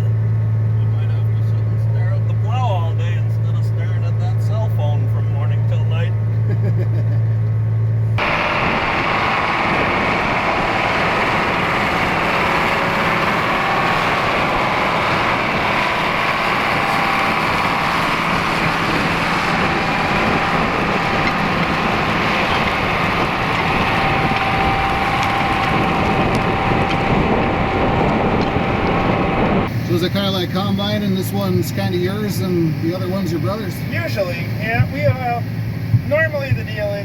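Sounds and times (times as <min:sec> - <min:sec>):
tractor diesel engine under load: 0:07.2 - 0:37.0.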